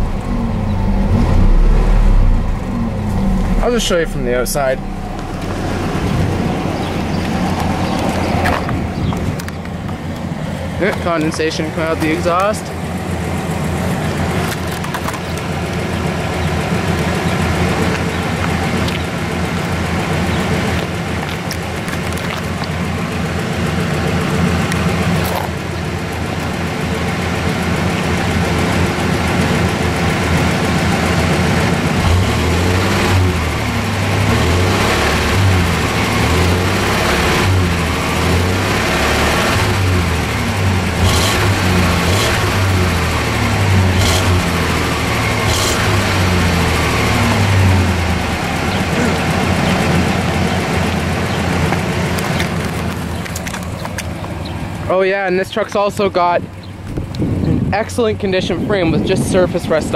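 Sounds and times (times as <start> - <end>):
engine exhaust idling: 0.0 - 59.9.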